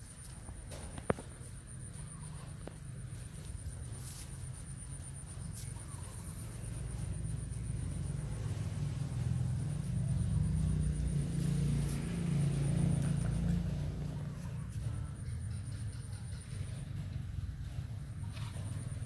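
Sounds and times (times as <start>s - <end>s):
distant engine rumble: 0.0s - 19.0s.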